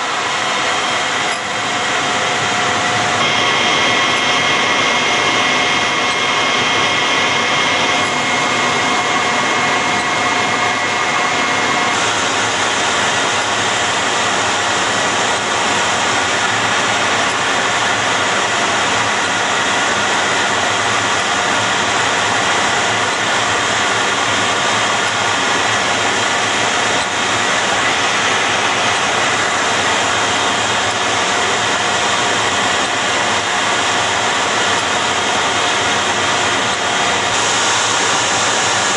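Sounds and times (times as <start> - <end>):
jet engines hissing and whining: 0.0 - 38.9.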